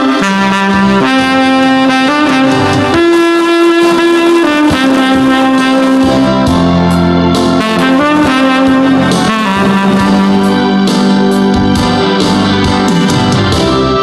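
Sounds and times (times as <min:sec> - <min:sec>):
music accompaniment: 0:00.0 - 0:14.0
tenor saxophone melody: 0:00.0 - 0:14.0.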